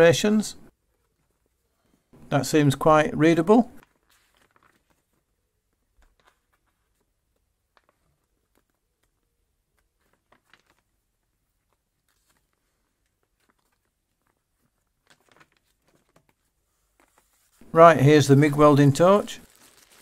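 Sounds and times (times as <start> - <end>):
paper pages rustling: 3.8 - 20.0.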